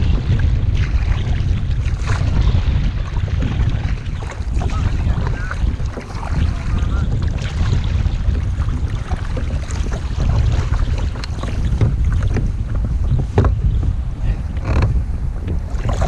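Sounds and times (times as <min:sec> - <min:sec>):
paddle splashing water: 0:00.0 - 0:16.0
wind buffeting microphone: 0:00.0 - 0:16.0.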